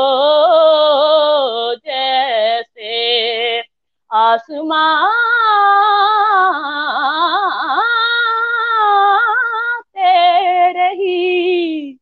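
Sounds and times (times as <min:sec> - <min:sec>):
boy singing a cappella: 0:00.0 - 0:12.0.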